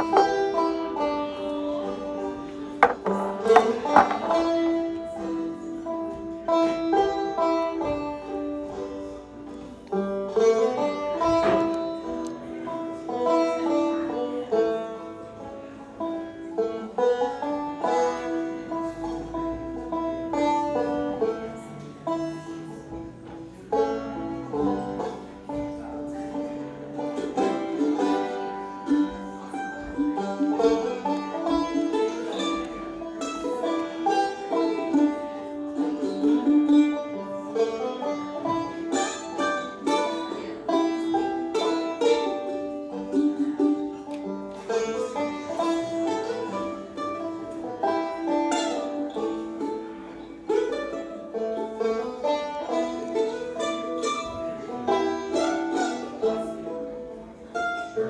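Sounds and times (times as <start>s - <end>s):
banjo picking: 0.0s - 58.0s
bluegrass string band: 0.0s - 58.0s.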